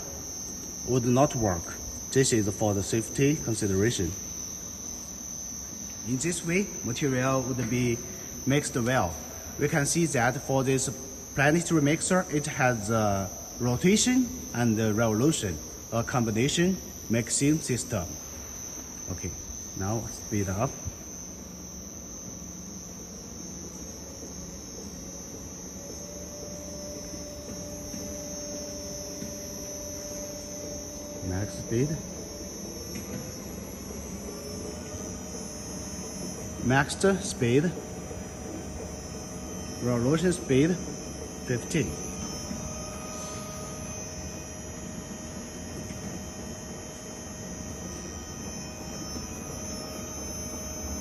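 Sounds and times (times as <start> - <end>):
motor hum with high whine: 0.0 - 51.0.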